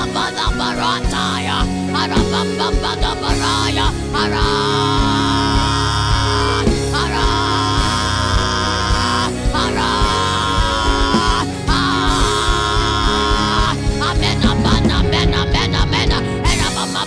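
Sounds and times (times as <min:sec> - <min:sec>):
bass: 0:00.0 - 0:17.0
drum beat: 0:00.0 - 0:17.0
live worship music: 0:00.0 - 0:17.0.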